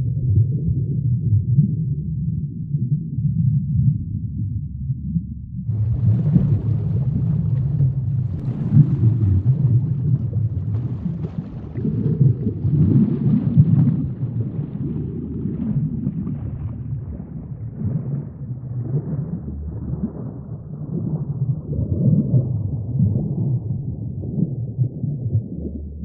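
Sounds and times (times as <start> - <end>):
underwater rumbling water wash: 0.0 - 26.0.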